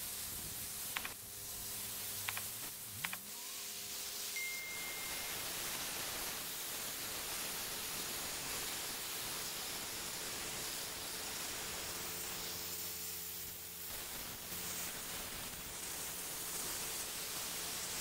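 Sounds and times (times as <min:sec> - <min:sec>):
pressure washer jet hissing: 0:00.0 - 0:18.0.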